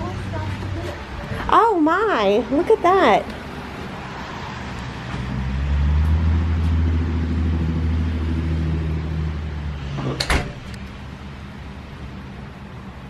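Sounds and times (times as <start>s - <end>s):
vehicle engine hum passing: 0.0s - 13.0s.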